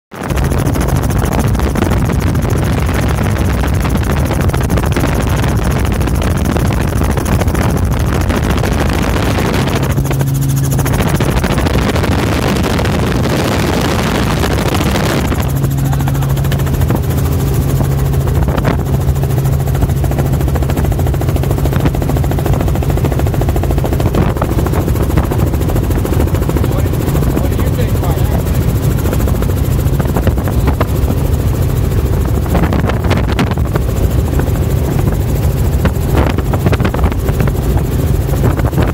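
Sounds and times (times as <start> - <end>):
helicopter rotor and engine noise: 0.1 - 38.9.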